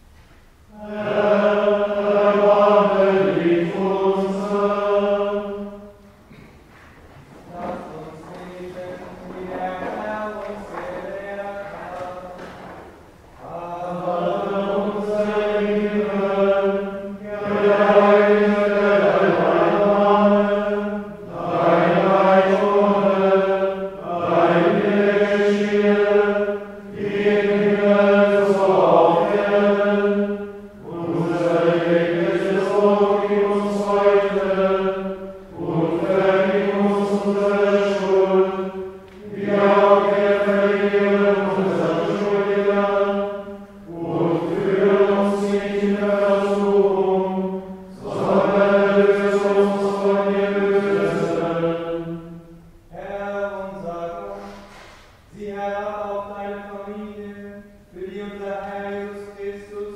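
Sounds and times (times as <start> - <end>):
men chanting in unison: 0.7 - 6.4, 7.5 - 12.8, 13.4 - 52.3.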